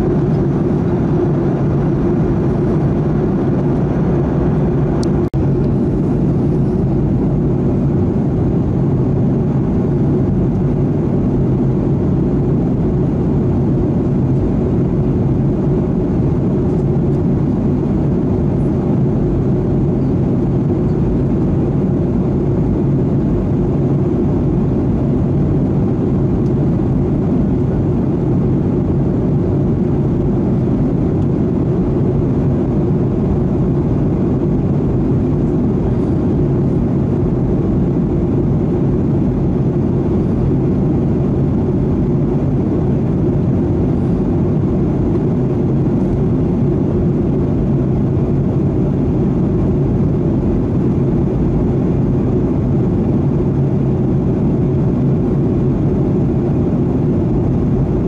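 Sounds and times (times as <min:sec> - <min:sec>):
aircraft cabin roar: 0:00.0 - 0:58.0
low hum: 0:00.0 - 0:58.0.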